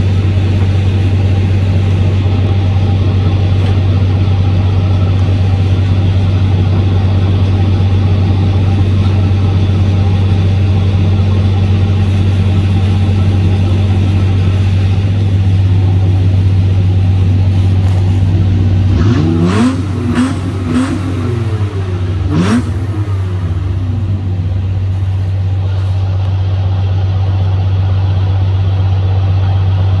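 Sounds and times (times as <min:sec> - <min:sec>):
engine revving: 0:00.0 - 0:26.2
truck engine humming: 0:00.0 - 0:30.0.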